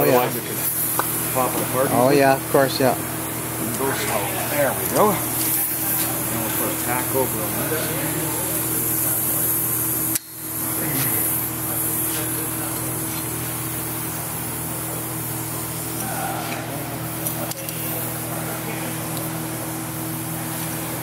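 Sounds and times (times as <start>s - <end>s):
welding torch flame hissing: 0.0s - 21.0s.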